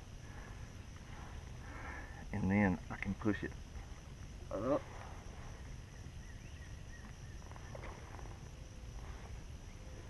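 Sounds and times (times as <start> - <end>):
insects chirring: 0.0 - 10.0
low constant rumble: 0.0 - 10.0.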